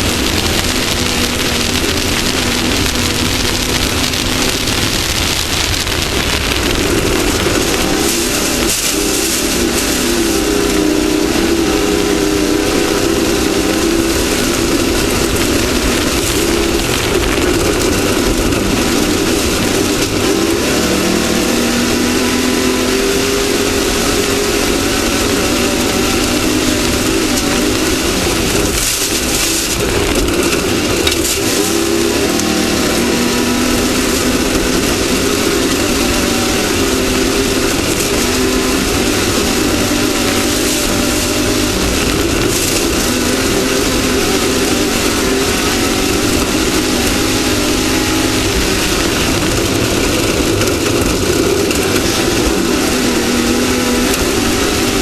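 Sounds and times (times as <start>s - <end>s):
race vehicle engine revving: 0.0s - 55.0s
wind and terrain noise: 0.0s - 55.0s.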